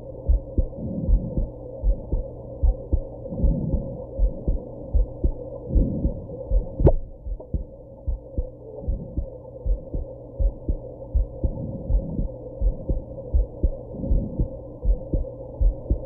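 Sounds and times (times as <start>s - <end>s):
heartbeat thumps: 0.0s - 16.0s.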